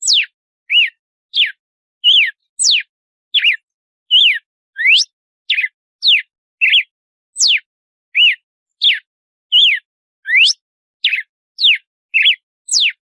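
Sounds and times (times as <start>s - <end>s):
bird whistling song: 0.0s - 13.0s.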